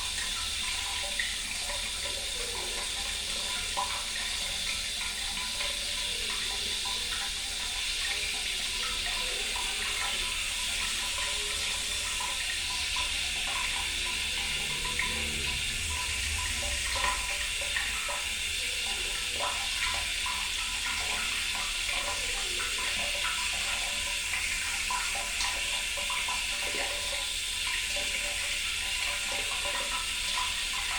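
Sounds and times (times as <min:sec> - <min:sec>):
running water trickling: 0:00.0 - 0:30.9.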